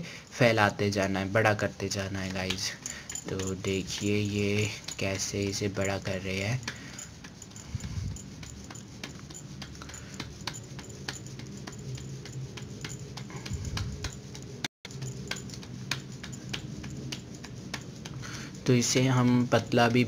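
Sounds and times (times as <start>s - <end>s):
hands patting dough: 0.0s - 20.0s
low steady hum: 0.0s - 20.0s.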